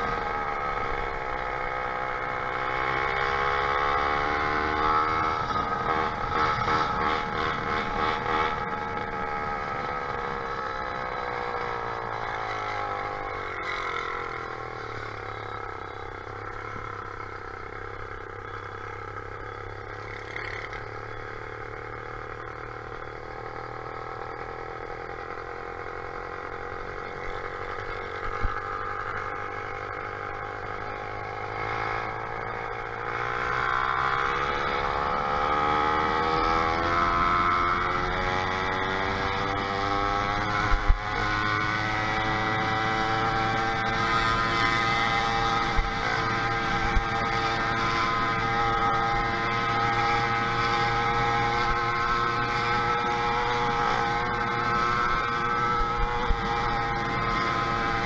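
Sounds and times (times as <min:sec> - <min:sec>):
small motorized bicycle engine running: 0:00.0 - 0:58.0.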